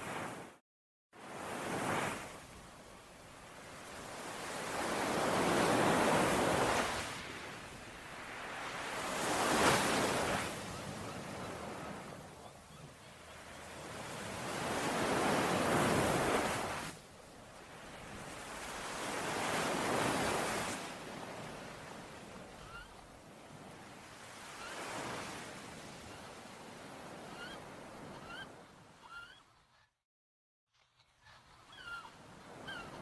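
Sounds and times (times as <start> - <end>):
waves breaking and washing ashore: 0.0 - 0.6, 1.2 - 29.7, 30.9 - 33.0.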